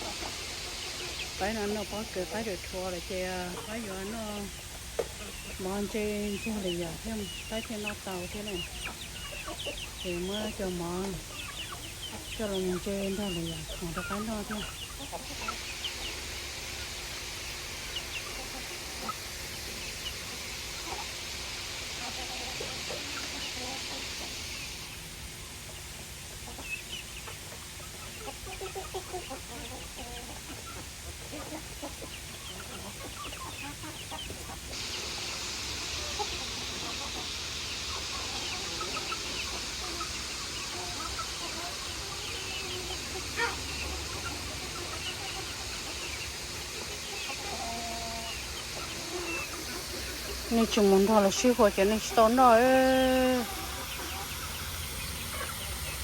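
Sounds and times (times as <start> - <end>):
chickens clucking: 0.0 - 56.0
steady high hiss: 0.0 - 56.0.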